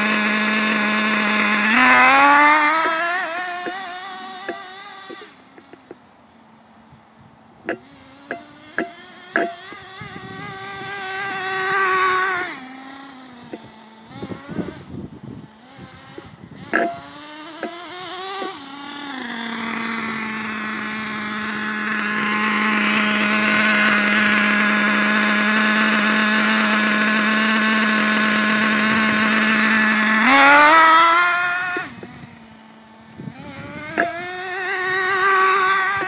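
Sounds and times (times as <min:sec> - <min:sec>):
rc truck engine revving: 0:00.0 - 0:36.0.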